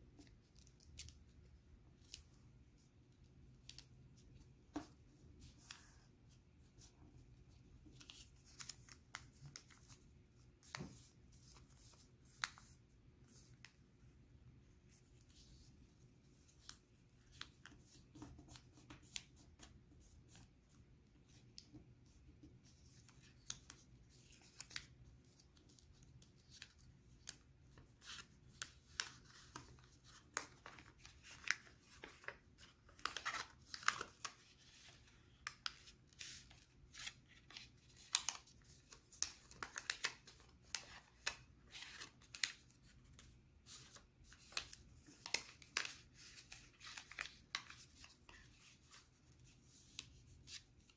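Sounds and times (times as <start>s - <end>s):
paper being folded and creased: 3.6s - 13.8s, 14.9s - 50.9s.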